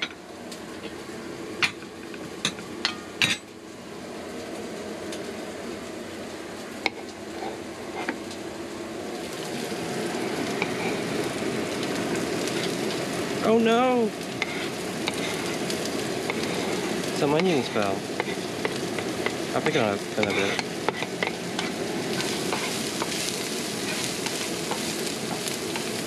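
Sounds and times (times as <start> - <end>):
garlic and onions frying in oil: 0.0 - 26.0.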